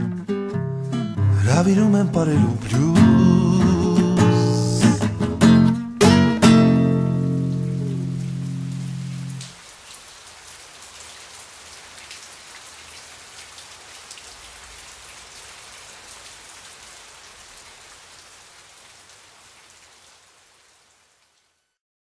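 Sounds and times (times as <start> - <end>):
steady rain pattering: 0.9 - 21.8.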